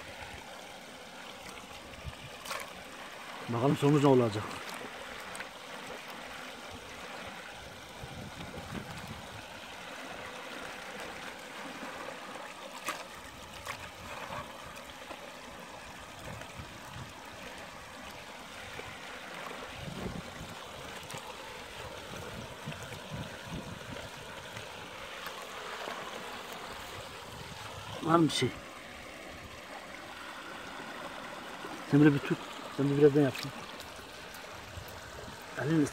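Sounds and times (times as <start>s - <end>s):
creek water trickling: 0.0s - 35.9s.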